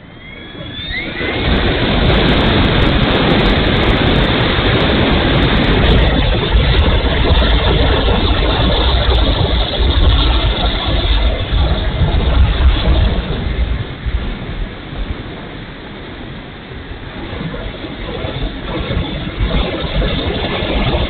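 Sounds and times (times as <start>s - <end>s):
propeller spinning rush: 0.0s - 21.0s
wind buffeting microphone: 0.0s - 21.0s.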